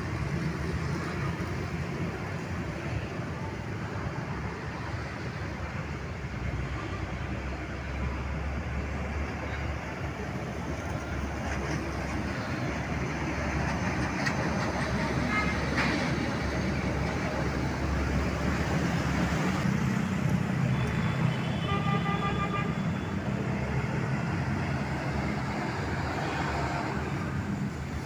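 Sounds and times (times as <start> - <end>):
heavy trucks and buses passing: 0.0 - 28.0.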